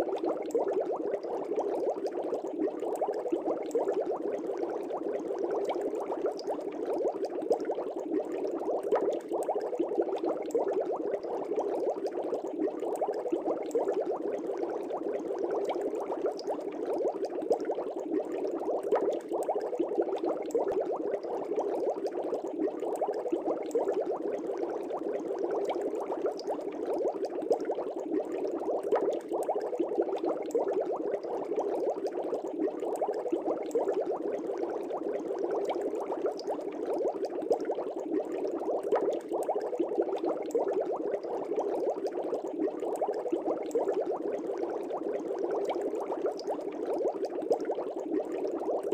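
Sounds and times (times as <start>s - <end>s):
air bubbles in fish tank: 0.0s - 48.9s.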